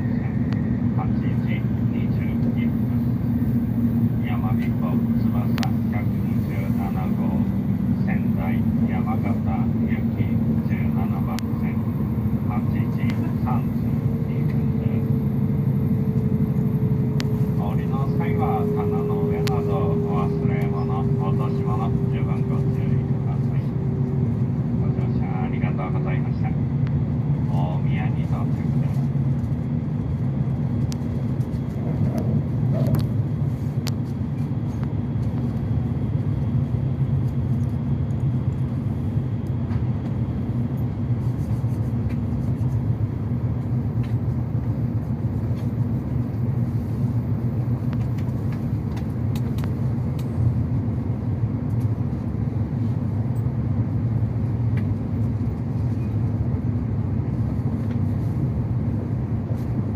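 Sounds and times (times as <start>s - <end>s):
train running low rumble: 0.0s - 59.9s.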